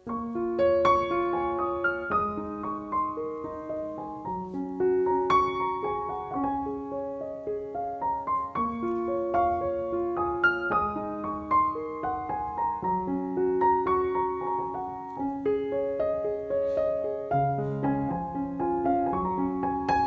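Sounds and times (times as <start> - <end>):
gentle solo piano melody: 0.0 - 20.0.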